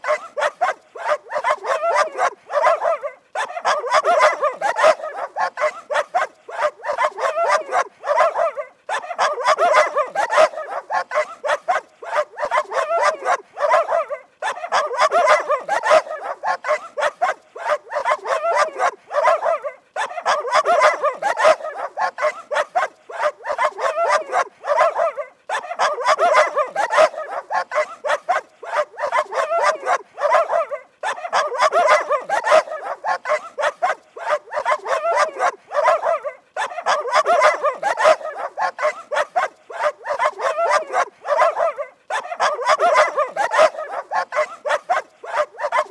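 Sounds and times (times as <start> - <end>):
dog barking rapidly: 0.0 - 45.9.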